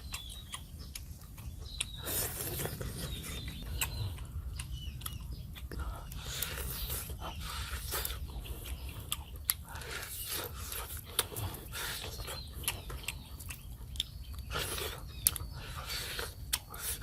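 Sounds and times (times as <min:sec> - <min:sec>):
chewing and biting meat: 0:00.0 - 0:17.0.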